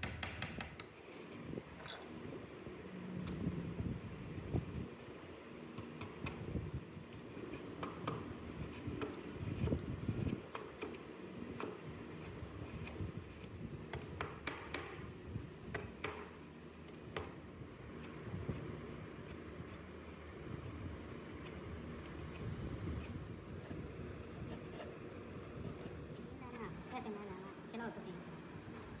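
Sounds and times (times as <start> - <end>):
carving tools on wood: 0.0 - 1.5, 4.4 - 27.2, 28.0 - 29.0.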